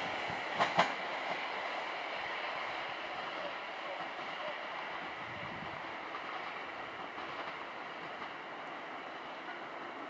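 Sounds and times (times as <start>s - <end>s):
train wheels on rails: 0.0s - 10.0s.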